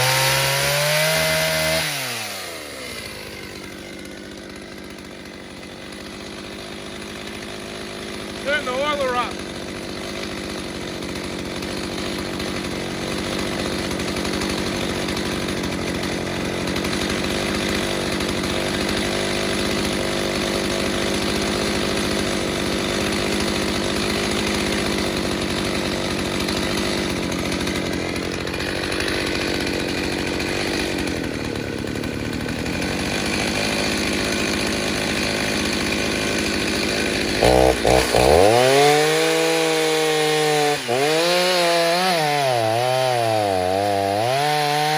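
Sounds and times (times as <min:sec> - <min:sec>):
chainsaw running at high revs: 0:00.0 - 0:44.9.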